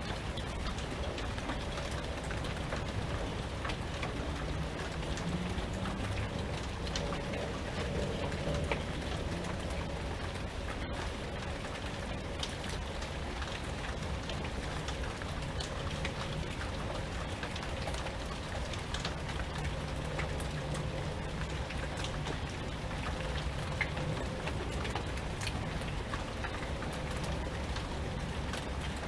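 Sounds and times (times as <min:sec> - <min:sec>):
low rain rumble: 0:00.0 - 0:29.0
raindrops ticking on a surface: 0:00.0 - 0:29.0.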